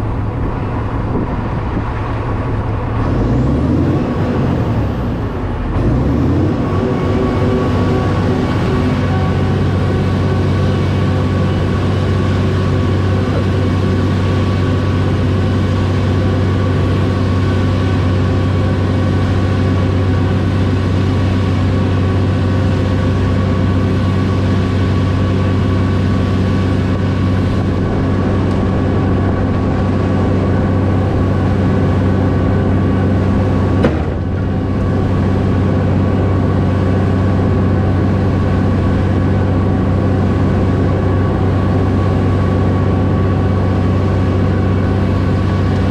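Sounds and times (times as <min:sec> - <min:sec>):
diesel truck engine running: 0:00.0 - 0:45.9.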